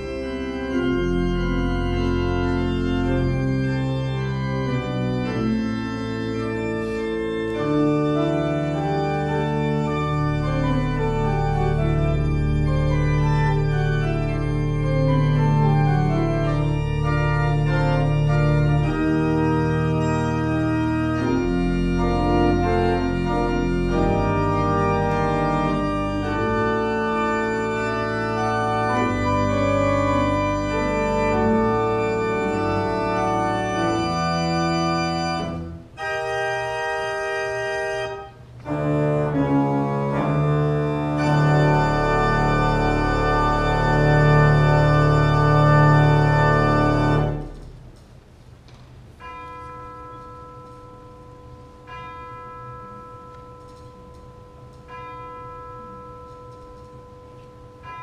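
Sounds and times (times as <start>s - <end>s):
organ playing sustained chords: 0.0s - 58.0s.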